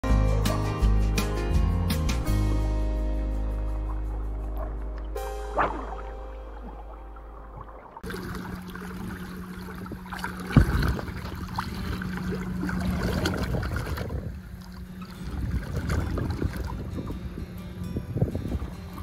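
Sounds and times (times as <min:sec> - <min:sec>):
river water moving: 0:02.1 - 0:19.0
steady low hum: 0:02.8 - 0:19.0.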